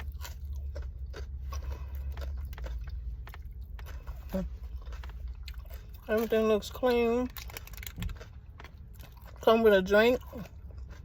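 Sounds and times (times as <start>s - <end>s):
chewing and crunching: 0.0s - 11.0s
steady low hum: 0.0s - 11.0s.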